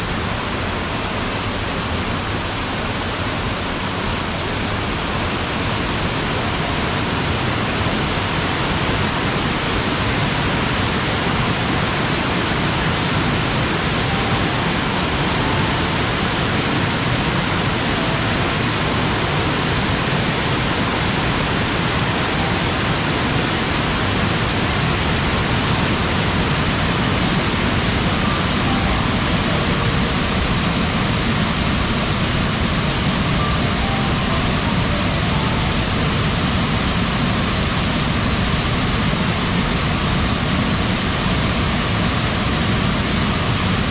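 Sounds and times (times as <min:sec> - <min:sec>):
waterfall pouring and splashing: 0:00.0 - 0:43.9.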